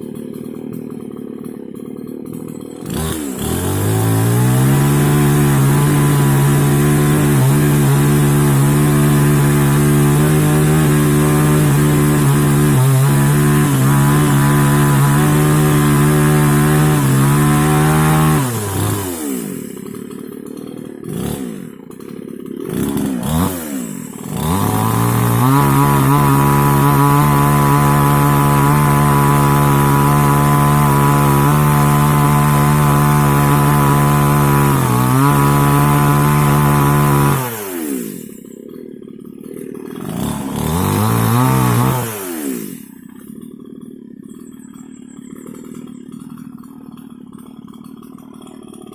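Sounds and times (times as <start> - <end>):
chainsaw engine revving: 0.0 - 48.9.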